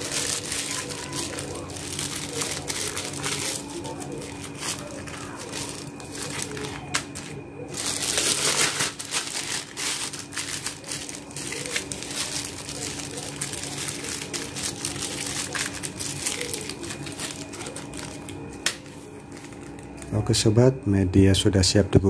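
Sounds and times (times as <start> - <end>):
plastic bags crinkling: 0.0 - 20.3.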